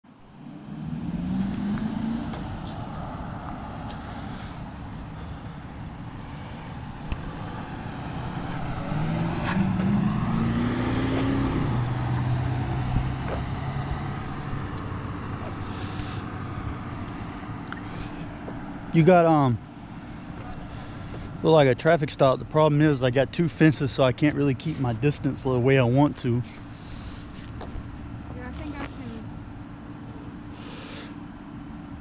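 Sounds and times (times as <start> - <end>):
road noise: 0.0 - 32.0
vehicle engine accelerating: 0.3 - 30.7.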